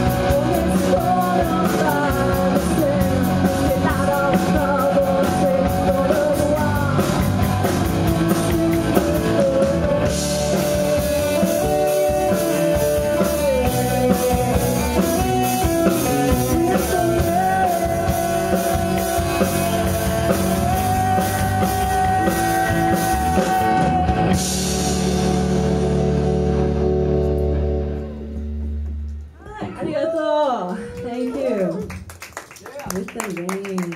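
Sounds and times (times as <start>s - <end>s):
live rock band: 0.0s - 30.0s.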